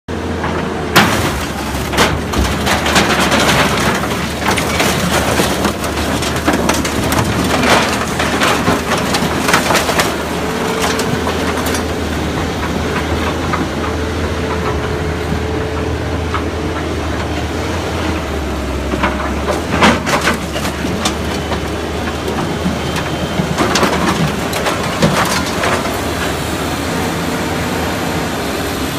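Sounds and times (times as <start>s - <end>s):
diesel machine running: 0.1s - 28.9s
metal and wood crunching: 0.3s - 28.0s.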